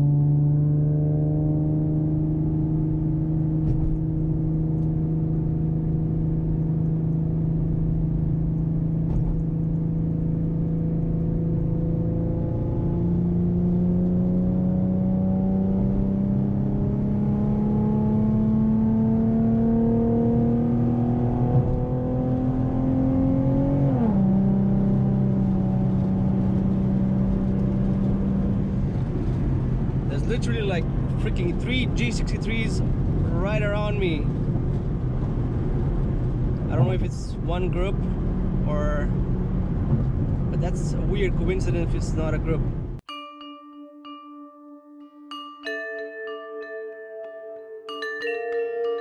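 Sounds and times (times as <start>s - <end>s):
car engine and exhaust droning: 0.0s - 43.0s.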